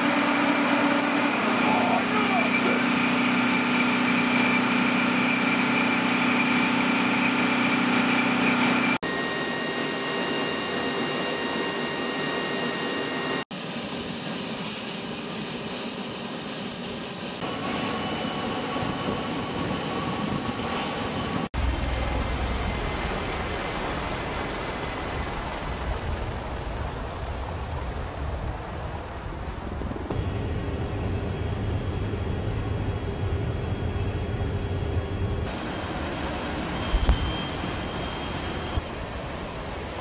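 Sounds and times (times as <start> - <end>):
turbine whine: 0.0 - 28.3, 29.8 - 40.0
aircraft rotor rumble overhead: 0.0 - 40.0.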